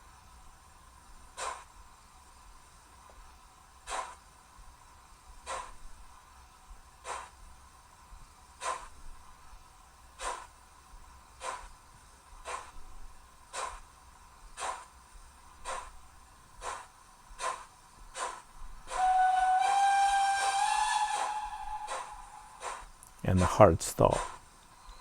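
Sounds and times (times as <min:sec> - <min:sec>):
model steam locomotive chuffs: 0:00.0 - 0:25.0.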